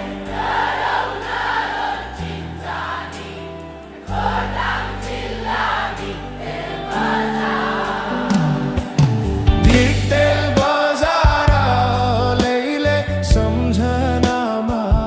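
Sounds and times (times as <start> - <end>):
sustained bass notes: 0.0 - 10.7, 11.3 - 14.2
singing voices: 0.0 - 15.0.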